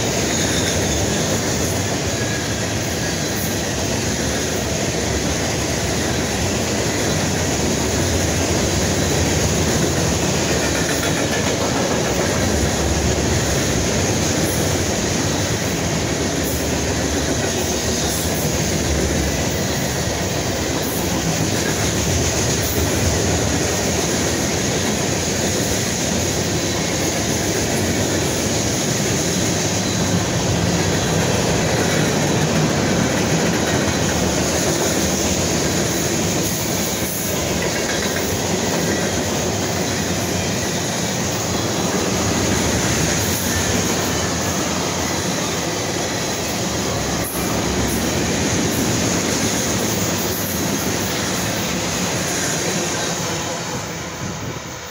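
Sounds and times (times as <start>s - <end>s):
freight train wheels rumbling: 0.0s - 54.9s.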